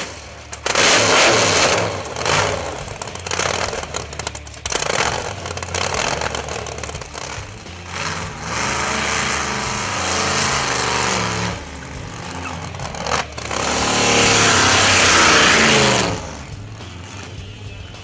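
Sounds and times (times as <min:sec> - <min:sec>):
backhoe engine revving: 0:00.0 - 0:18.0.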